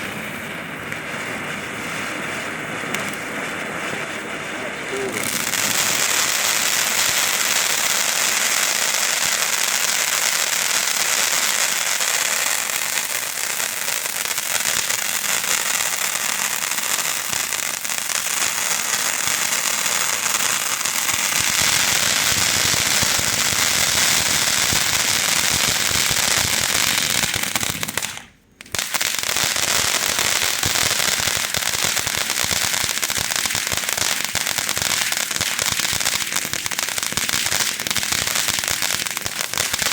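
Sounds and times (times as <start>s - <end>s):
firework fountain hissing and crackling: 0.0s - 39.9s.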